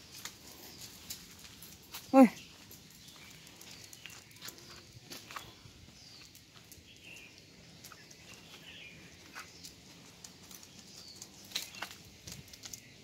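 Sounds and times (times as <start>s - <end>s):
footsteps on asphalt: 0.0s - 13.0s.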